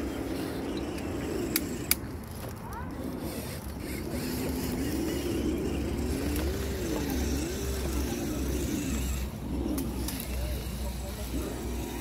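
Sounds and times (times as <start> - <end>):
electric motor and gearbox whining: 0.0 - 12.0
steady low rumble: 0.0 - 12.0.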